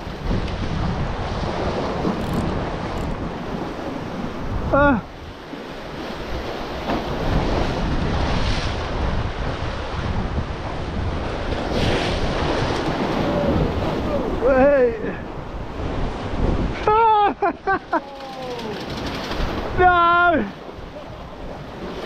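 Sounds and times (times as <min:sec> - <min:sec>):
waves washing against rock wall: 0:00.0 - 0:22.0
wind buffeting microphone: 0:00.0 - 0:22.0.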